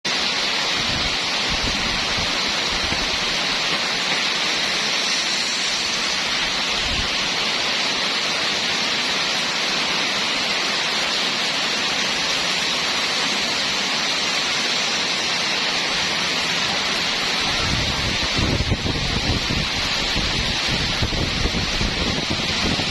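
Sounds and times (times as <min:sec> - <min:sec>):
steady rainfall: 0:00.0 - 0:22.9.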